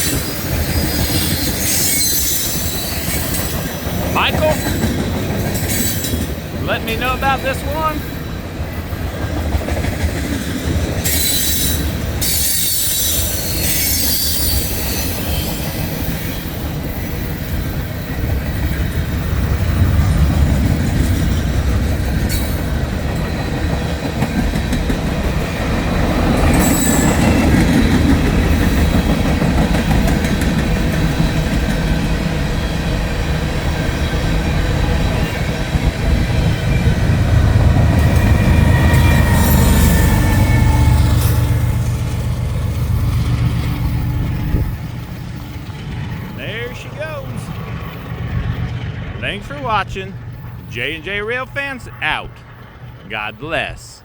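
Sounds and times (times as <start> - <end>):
freight train rolling past: 0.0 - 49.2, 50.1 - 50.7.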